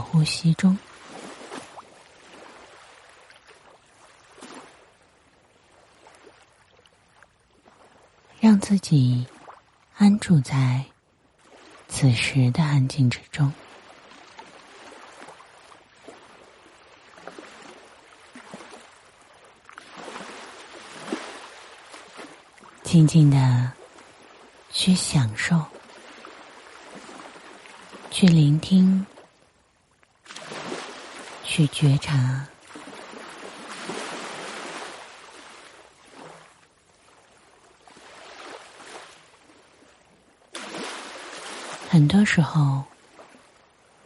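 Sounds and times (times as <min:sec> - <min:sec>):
ocean waves washing in: 0:00.0 - 0:44.0.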